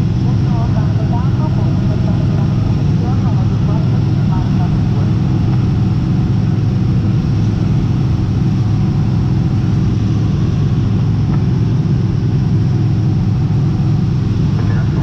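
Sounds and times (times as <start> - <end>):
aircraft engine droning in flight: 0.0 - 15.0.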